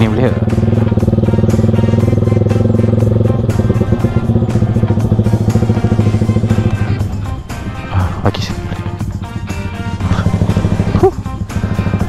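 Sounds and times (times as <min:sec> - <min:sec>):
motorcycle engine running at low speed: 0:00.0 - 0:12.0.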